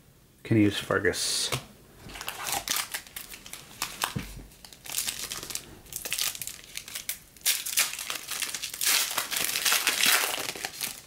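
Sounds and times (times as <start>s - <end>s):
foil wrapper crinkling: 2.1s - 11.0s.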